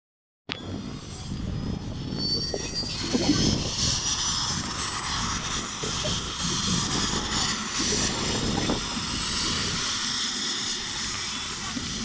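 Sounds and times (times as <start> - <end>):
helicopter engine and rotor rumble: 0.6 - 12.0
helicopter turbine whine: 0.6 - 12.0.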